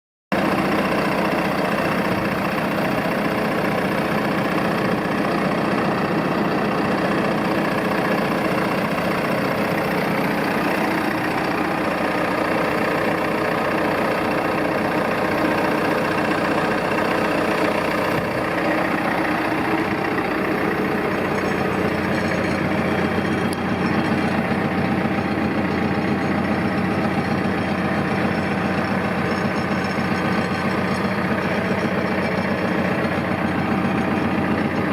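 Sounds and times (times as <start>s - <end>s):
tractor diesel engine idling: 0.3s - 34.9s.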